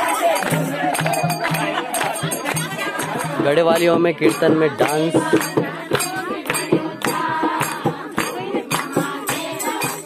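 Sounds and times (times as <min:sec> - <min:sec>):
group devotional singing: 0:00.0 - 0:10.0
hand percussion beat: 0:00.0 - 0:10.0.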